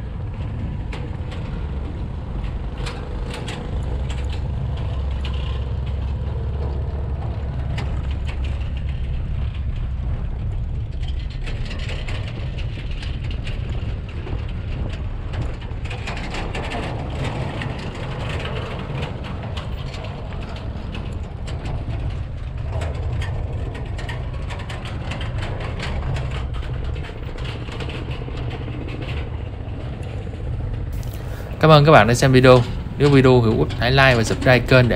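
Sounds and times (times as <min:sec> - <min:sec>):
bridge deck clattering: 0:00.0 - 0:34.9
motorbike engine rumble: 0:00.0 - 0:34.9.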